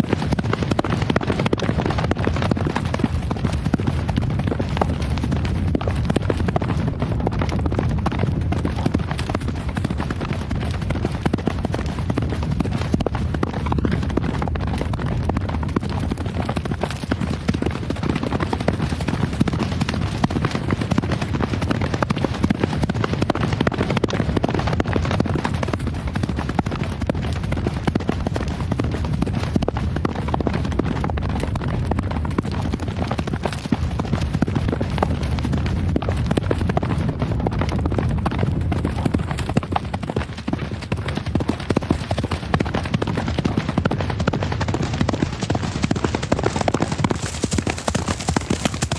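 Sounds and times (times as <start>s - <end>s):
horse hooves galloping: 0.0s - 48.9s.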